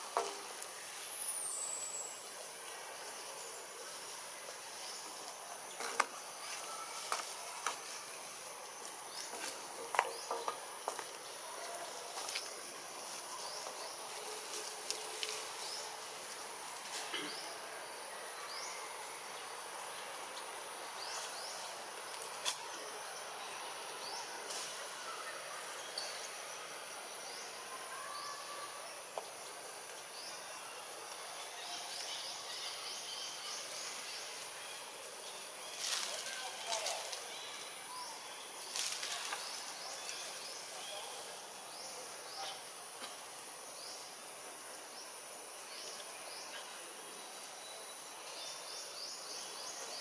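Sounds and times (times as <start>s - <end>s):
high insect drone: 0.0s - 50.0s.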